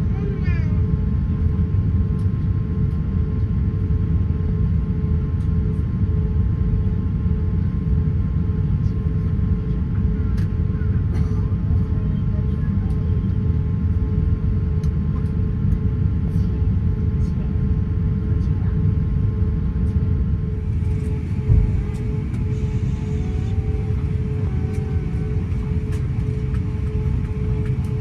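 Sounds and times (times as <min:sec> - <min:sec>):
aircraft cabin rumble: 0:00.0 - 0:28.0
constant hum: 0:00.0 - 0:28.0.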